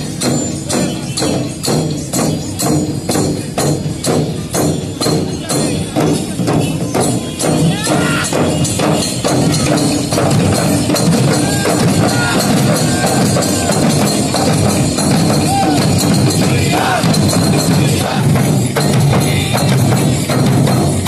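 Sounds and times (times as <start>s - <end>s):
barrel drums beating rhythm: 0.0s - 21.0s.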